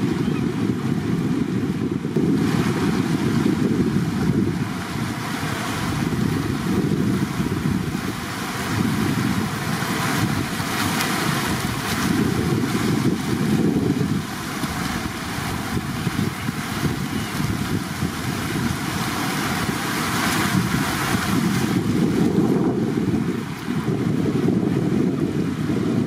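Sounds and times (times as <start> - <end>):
water rushing over rocks: 0.0 - 26.0
wind buffeting microphone: 0.0 - 26.0.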